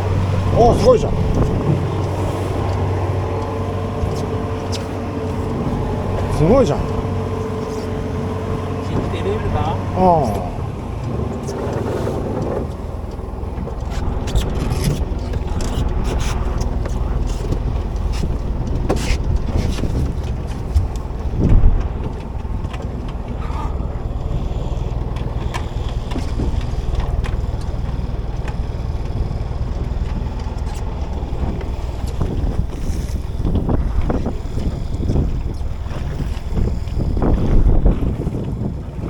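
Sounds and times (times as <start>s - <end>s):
boat engine rumble: 0.0s - 39.0s
wind on microphone: 0.0s - 39.0s.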